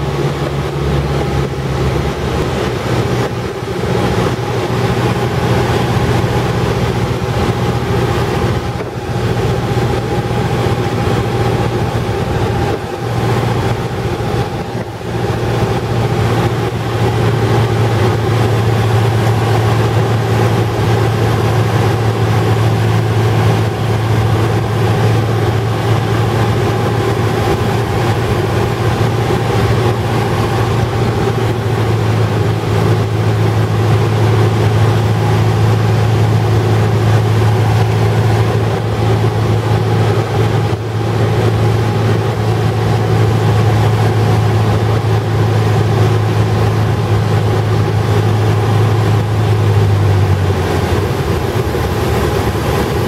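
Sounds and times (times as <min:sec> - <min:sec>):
airplane engine droning in cockpit: 0:00.0 - 0:53.0.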